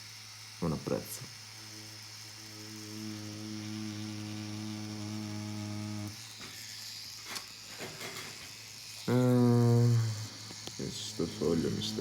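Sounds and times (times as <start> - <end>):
tattoo machine buzzing: 0.0 - 12.0.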